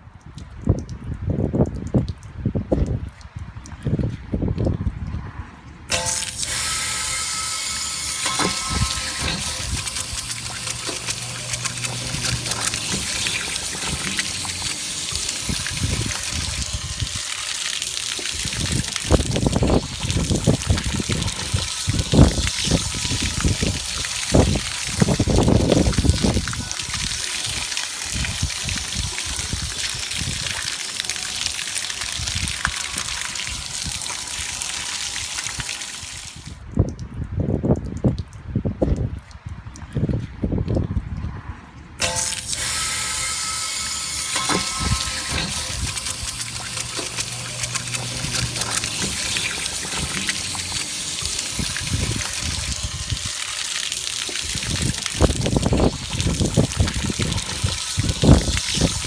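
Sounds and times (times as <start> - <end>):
water spraying and gushing: 5.9 - 36.9, 42.0 - 59.0.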